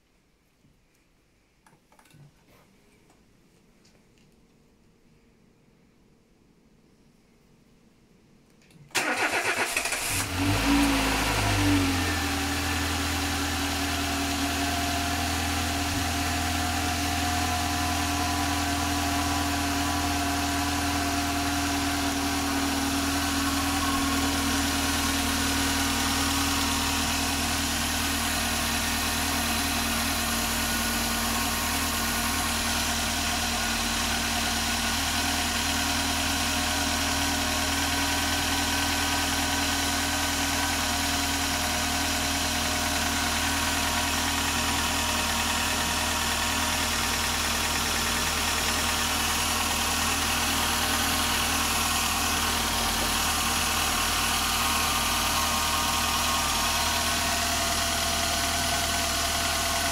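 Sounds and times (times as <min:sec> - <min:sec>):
car engine starting and idling: 0:08.9 - 0:59.9.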